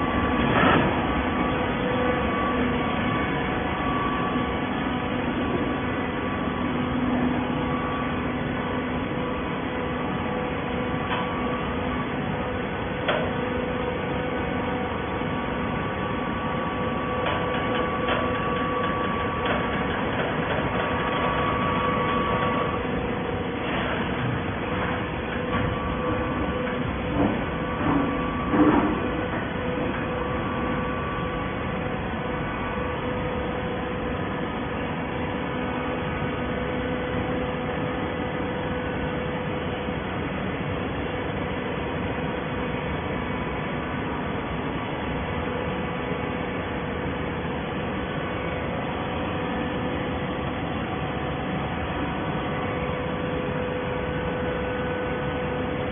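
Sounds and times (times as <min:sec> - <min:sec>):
baler machine hum and whine: 0:00.0 - 0:55.9.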